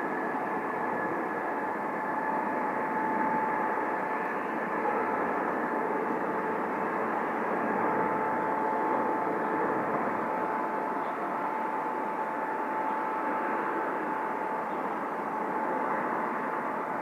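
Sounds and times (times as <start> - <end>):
jet airliner engines roaring: 0.0 - 17.0.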